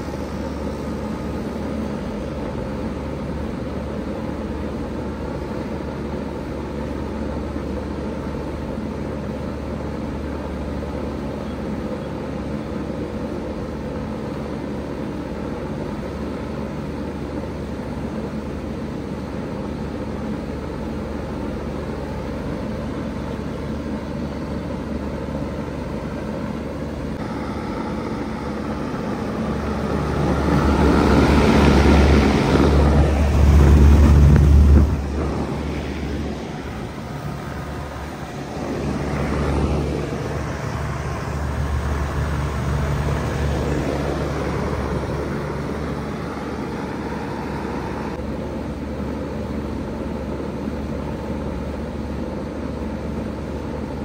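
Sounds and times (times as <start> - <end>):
fan rushing: 0.0 - 54.0
heat pump humming: 0.0 - 54.0.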